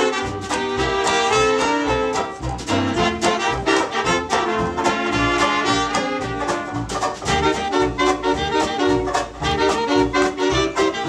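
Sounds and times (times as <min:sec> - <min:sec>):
big band swing music: 0:00.0 - 0:11.0.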